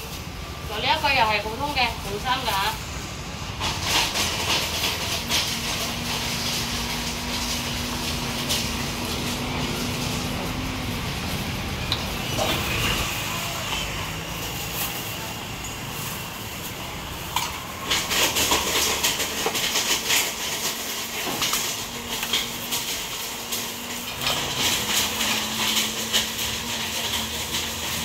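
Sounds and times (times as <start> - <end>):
plastic bags crackling: 0.0 - 28.0
utensils clattering: 3.5 - 28.0.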